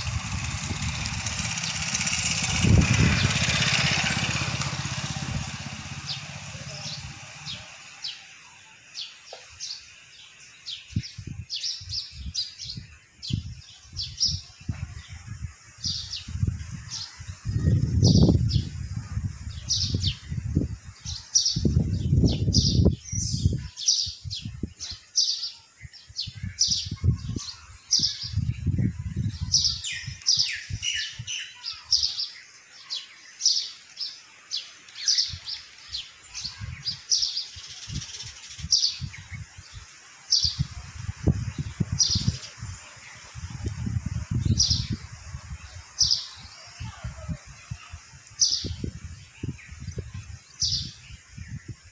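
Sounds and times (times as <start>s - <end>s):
wind rumbling on microphone: 0.0s - 8.1s, 10.7s - 32.3s, 35.2s - 51.9s
small birds chirping: 0.0s - 51.9s.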